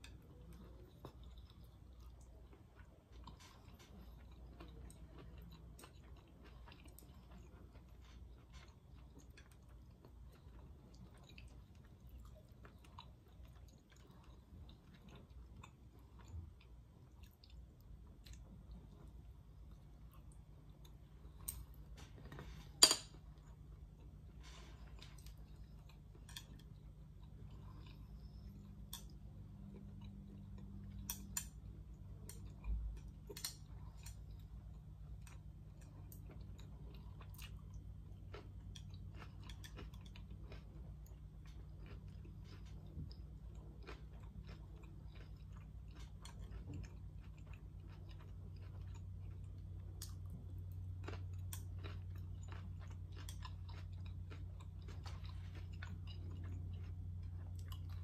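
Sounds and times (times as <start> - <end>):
chewing crisp food: 0.0 - 58.0
steady low hum: 0.0 - 58.0.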